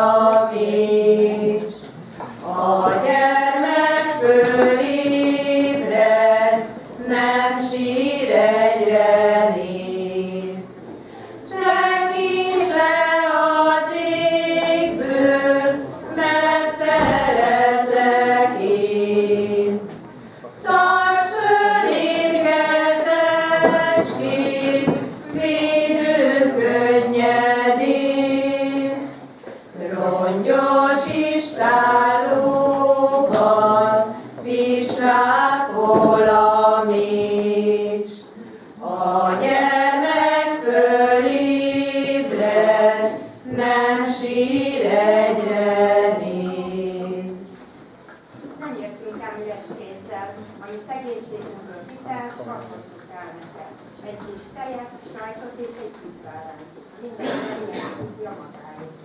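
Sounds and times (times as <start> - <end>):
women's choir singing: 0.0 - 47.6, 57.2 - 57.9.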